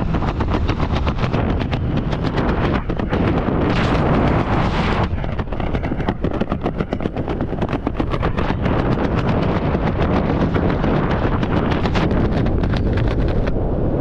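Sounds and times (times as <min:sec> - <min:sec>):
parachute fluttering: 0:00.0 - 0:14.0
wind rushing over microphone: 0:00.0 - 0:14.0.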